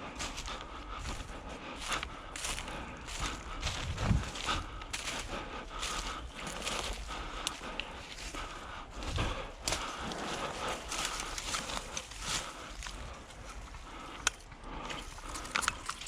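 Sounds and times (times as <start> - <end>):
footsteps on rough ground: 0.0 - 16.0.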